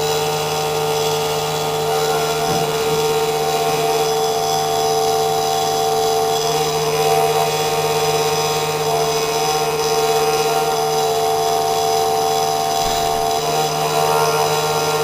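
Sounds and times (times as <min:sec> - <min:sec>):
engraving machine motor whine: 0:00.0 - 0:15.0.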